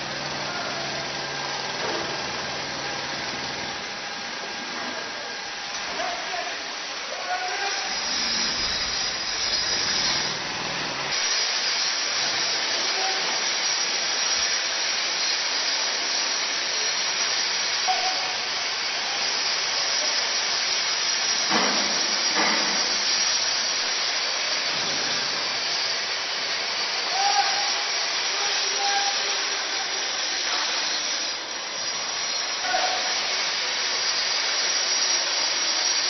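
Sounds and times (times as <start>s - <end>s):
power tools hissing on concrete: 0.0s - 36.0s.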